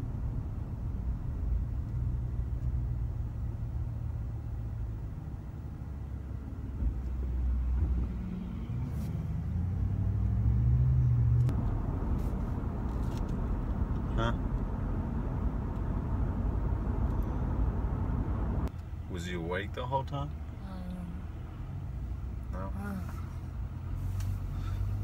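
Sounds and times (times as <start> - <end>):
truck engine drone inside cab: 0.0 - 25.0.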